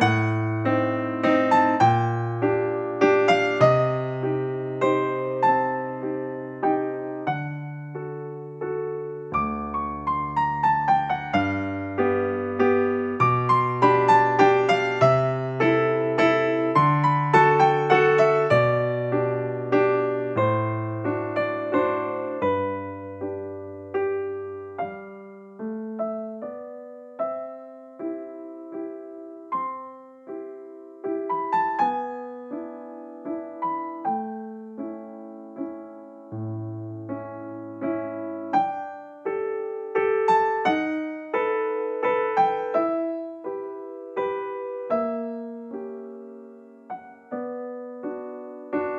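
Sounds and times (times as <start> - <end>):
slow solo piano piece: 0.0 - 48.9.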